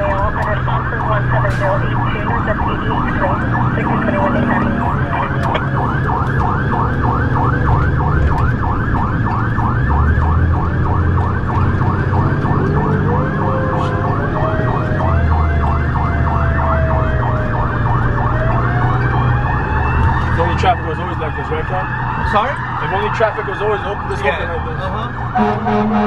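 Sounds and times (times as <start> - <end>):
fire truck siren yelping: 0.0 - 26.0
truck engine rumble: 0.0 - 26.0
wailing siren tone: 0.0 - 26.0.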